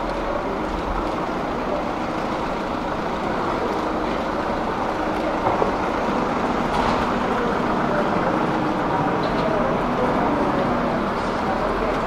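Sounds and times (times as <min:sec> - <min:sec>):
city street ambience: 0:00.0 - 0:12.0.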